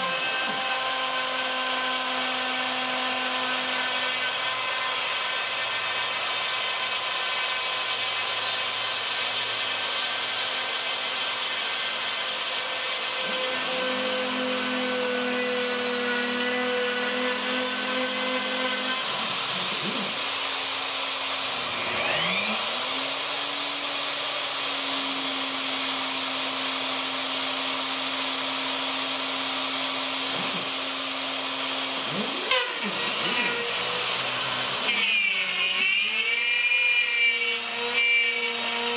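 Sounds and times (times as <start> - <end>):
router whining cutting wood: 0.0 - 38.9.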